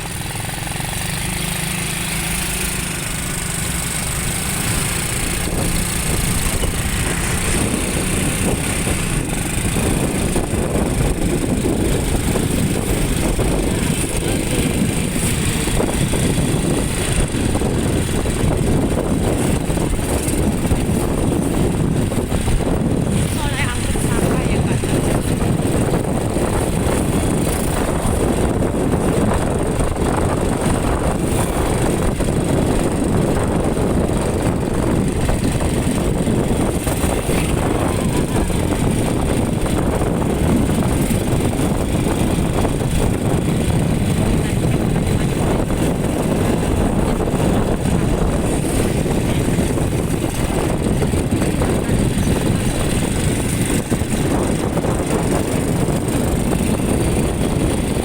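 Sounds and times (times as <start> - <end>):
motorcycle engine: 0.0 - 58.0
road noise: 0.0 - 58.0
wind buffeting microphone: 0.0 - 58.0.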